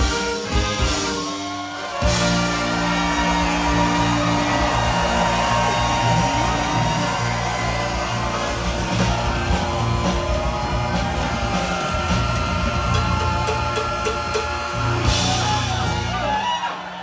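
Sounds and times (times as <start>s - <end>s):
live band playing polka: 0.0s - 16.9s.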